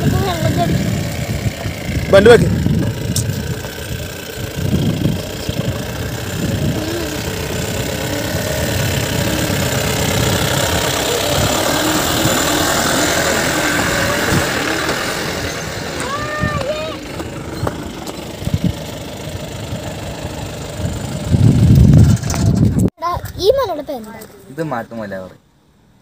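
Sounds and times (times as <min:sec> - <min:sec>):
engine running at low revs: 0:00.0 - 0:22.9.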